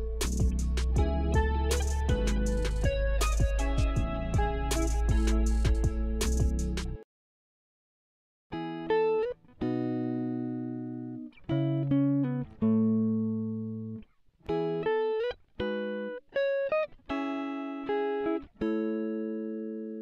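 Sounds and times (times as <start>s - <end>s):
plucked guitar music: 0.0s - 7.0s, 8.5s - 20.0s.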